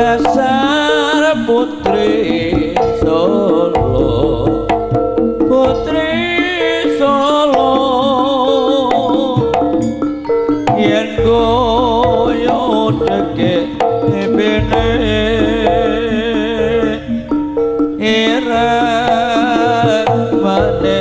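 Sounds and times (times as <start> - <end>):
hand drums beating: 0.0 - 21.0
ornamented melody with vibrato: 0.0 - 21.0.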